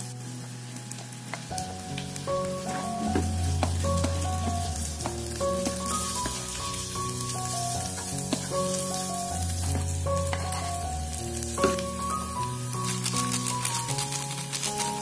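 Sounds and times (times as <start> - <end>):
background music with held notes: 0.0 - 15.0
vegetables sizzling in a pan: 0.0 - 15.0.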